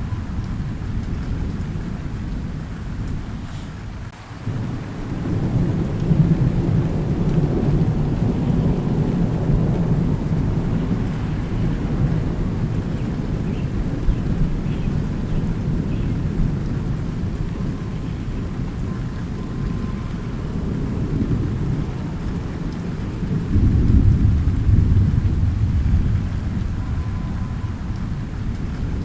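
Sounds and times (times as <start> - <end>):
rolling thunder: 0.0 - 29.0
steady rain: 0.0 - 29.0.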